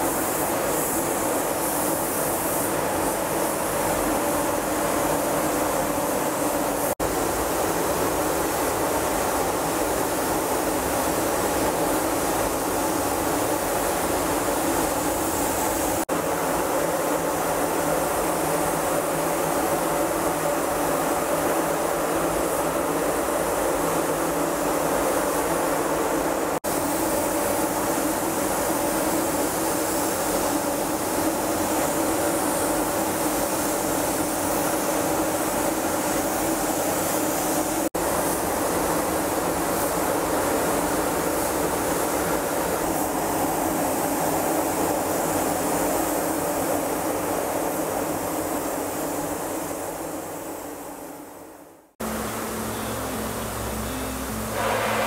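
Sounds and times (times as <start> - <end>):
workshop machine hissing: 0.0 - 55.0.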